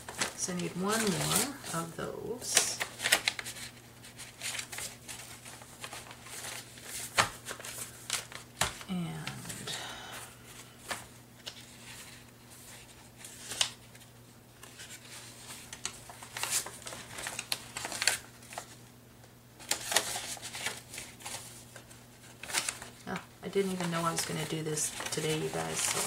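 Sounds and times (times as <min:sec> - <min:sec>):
paper rustling: 0:00.0 - 0:09.7, 0:10.5 - 0:18.8, 0:19.6 - 0:26.0
faint low hum: 0:00.0 - 0:26.0.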